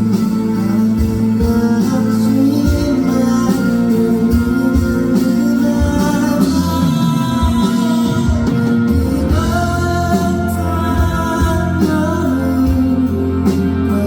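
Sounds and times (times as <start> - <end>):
live band playing: 0.0 - 14.0
person singing: 0.0 - 14.0
steady drum beat: 0.0 - 14.0.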